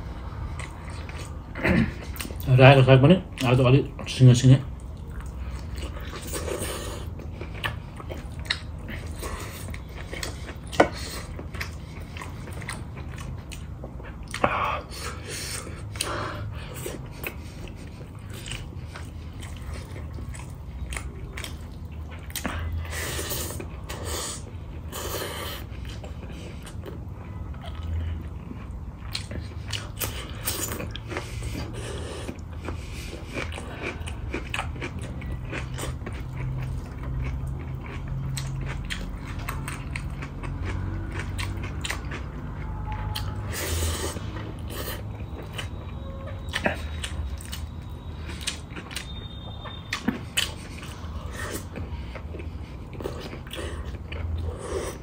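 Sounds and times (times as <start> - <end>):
chewing and smacking: 0.1 - 55.0.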